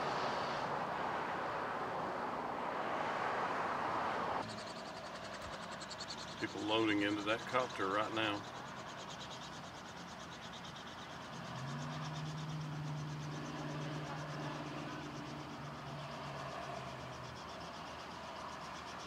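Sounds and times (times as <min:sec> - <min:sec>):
distant helicopter rotor drone: 0:00.0 - 0:19.0.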